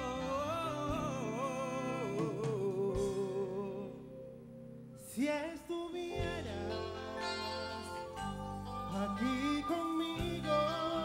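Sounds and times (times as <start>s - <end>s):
band playing slow ballad: 0.0s - 11.0s.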